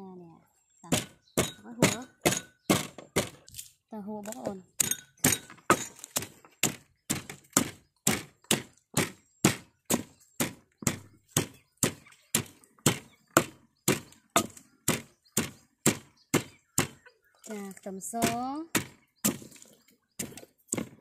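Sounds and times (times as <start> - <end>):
pestle pounding in mortar: 0.9 - 3.4, 4.7 - 17.0, 18.1 - 19.6, 20.2 - 21.0.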